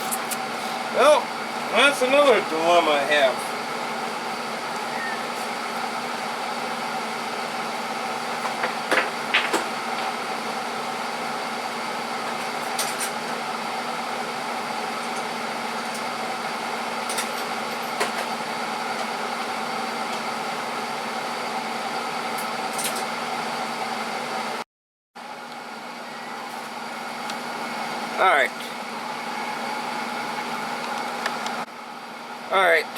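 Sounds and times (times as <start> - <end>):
steady mechanical hum: 0.0 - 24.6, 25.2 - 32.9.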